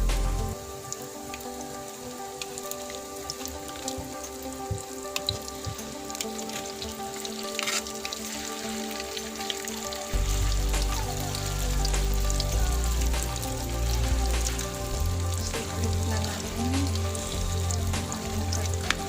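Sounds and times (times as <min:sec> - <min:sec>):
background music with bass: 0:00.0 - 0:00.8, 0:02.6 - 0:19.0
hot oil sizzling and crackling: 0:00.0 - 0:19.0.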